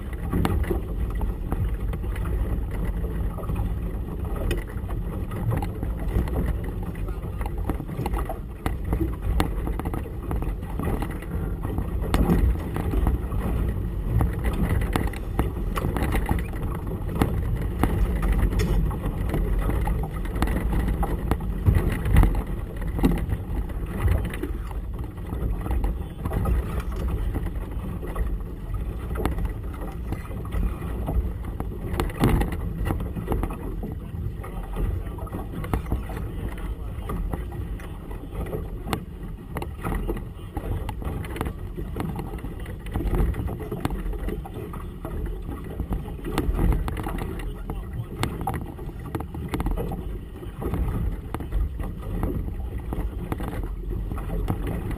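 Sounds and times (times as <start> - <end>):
water splashing against hull: 0.0 - 54.9
wind buffeting microphone: 0.0 - 54.9.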